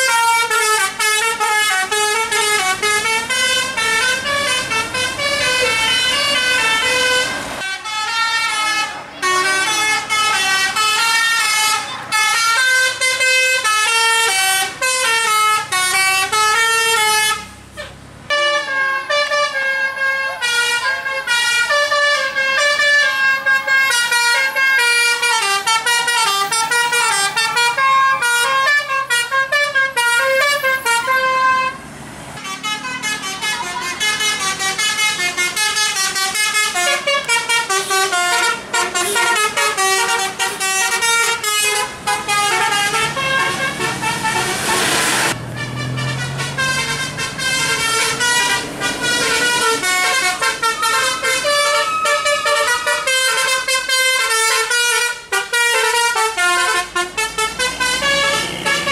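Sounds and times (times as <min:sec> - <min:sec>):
bus musical horns playing melodies: 0:00.0 - 0:58.9.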